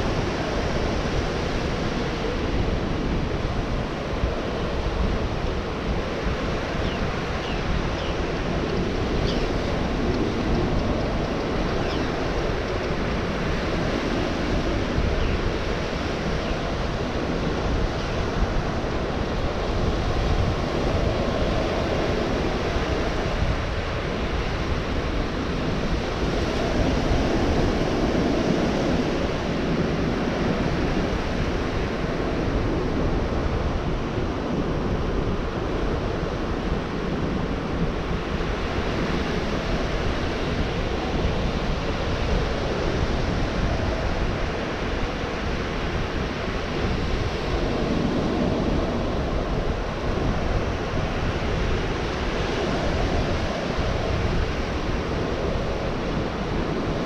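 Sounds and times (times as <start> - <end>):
surf washing onto beach: 0.0 - 57.0
wind on microphone: 0.0 - 57.0.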